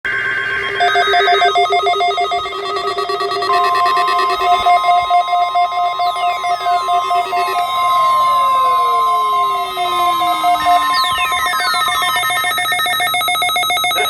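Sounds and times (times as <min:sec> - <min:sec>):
rapid pulsing electronic beeps: 0:00.1 - 0:14.0
screechy data tone: 0:00.3 - 0:14.0
steady high alert tone: 0:00.4 - 0:12.7
falling pitch sweeps: 0:00.6 - 0:12.3.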